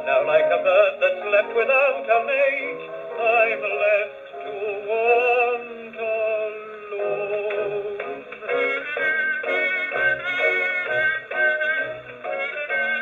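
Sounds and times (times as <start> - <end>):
gramophone dance-band music: 0.0 - 13.0.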